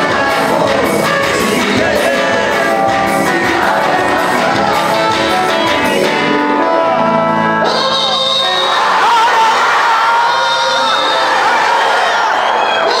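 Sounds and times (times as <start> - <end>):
church worship singing: 0.0 - 13.0.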